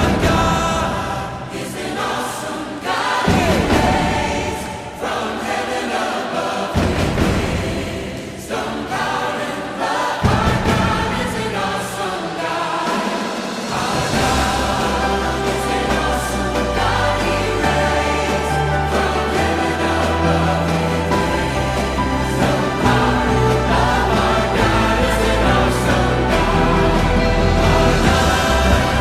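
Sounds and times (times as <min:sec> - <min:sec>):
choir singing background music: 0:00.0 - 0:29.0.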